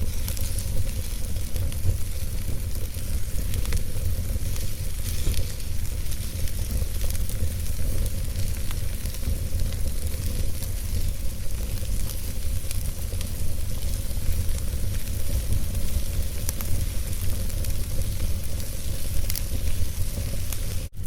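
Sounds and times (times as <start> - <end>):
campfire crackling and popping: 0.0 - 21.0
low rumble of wind: 0.0 - 21.0.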